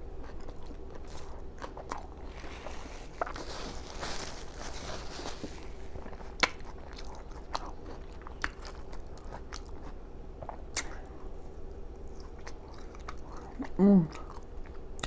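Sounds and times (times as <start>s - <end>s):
person chewing with mouth smacking: 0.2s - 4.6s, 5.4s - 11.3s, 12.0s - 15.0s.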